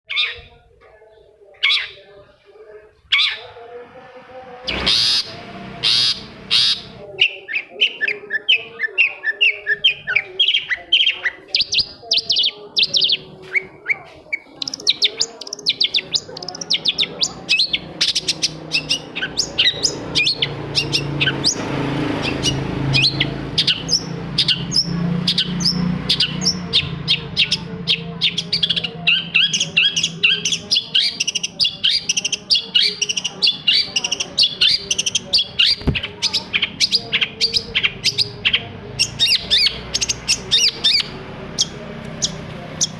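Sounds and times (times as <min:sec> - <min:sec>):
bird chattering song: 0:04.7 - 0:42.9.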